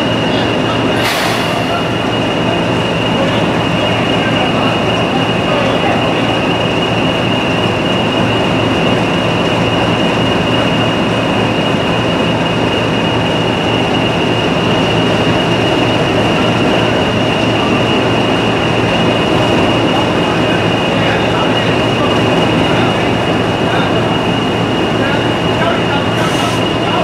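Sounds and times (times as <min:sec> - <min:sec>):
diesel locomotive engine idling: 0:00.0 - 0:27.0.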